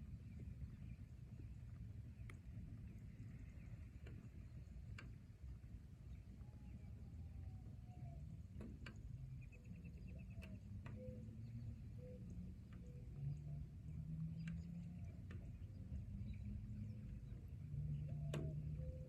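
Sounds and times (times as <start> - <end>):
low rain rumble: 0.0 - 19.0.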